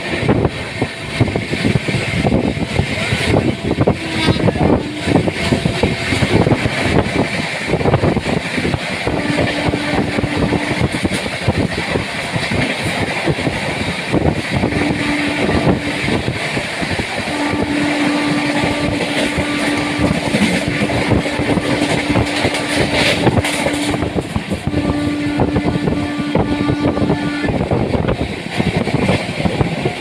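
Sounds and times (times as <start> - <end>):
express train rushing at speed: 0.0 - 30.0.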